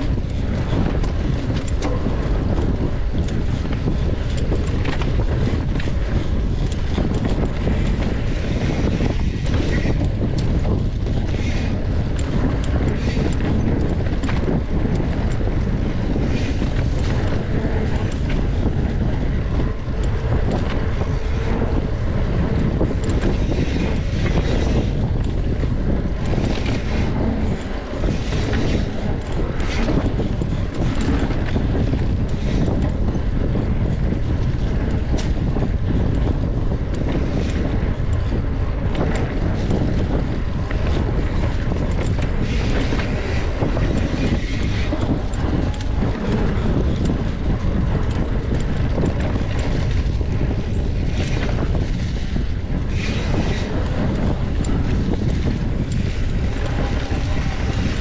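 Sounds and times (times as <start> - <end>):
bicycle rattles and clicks: 0.0 - 58.0
wind buffeting microphone: 0.0 - 58.0.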